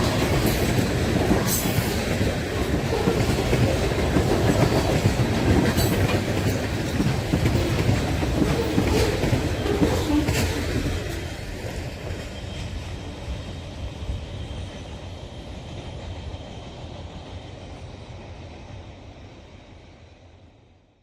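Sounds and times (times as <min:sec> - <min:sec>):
freight train cars rolling: 0:00.0 - 0:18.1.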